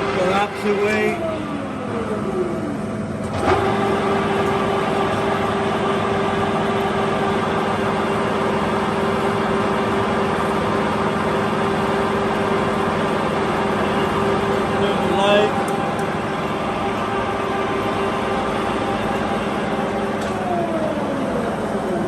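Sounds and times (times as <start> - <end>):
lathe whining: 0.0 - 22.0.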